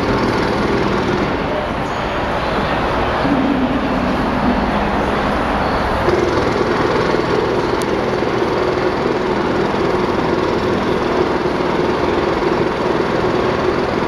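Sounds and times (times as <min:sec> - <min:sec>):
jackhammer hammering: 0:00.0 - 0:01.7, 0:03.2 - 0:14.0.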